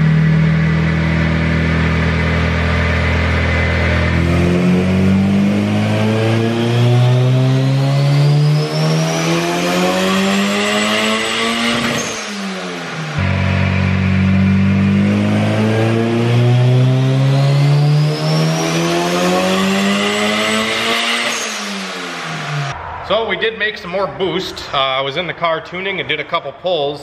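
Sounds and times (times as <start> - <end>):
turbocharged car engine revving: 0.0 - 22.8
high turbo whine: 0.0 - 25.4.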